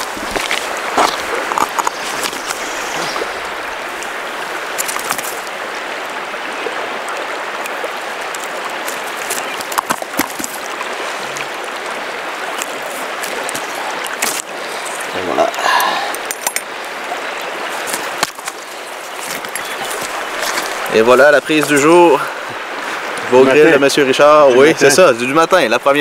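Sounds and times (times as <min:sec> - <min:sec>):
river rushing over gravel: 0:00.0 - 0:26.0.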